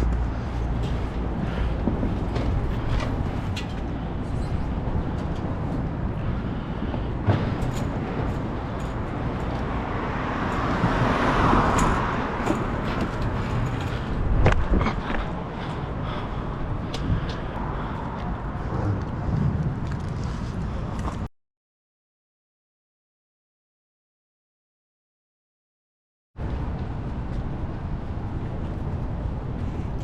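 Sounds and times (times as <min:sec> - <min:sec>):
traffic hum: 0:00.0 - 0:21.3, 0:26.4 - 0:30.0.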